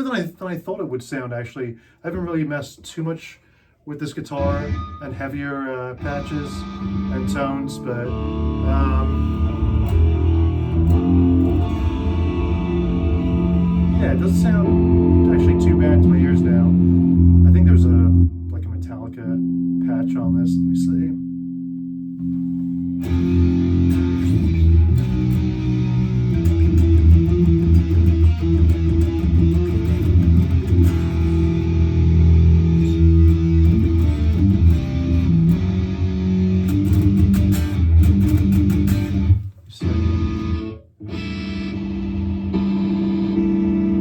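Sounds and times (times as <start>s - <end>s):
distorted electric guitar riffing: 4.3s - 44.0s.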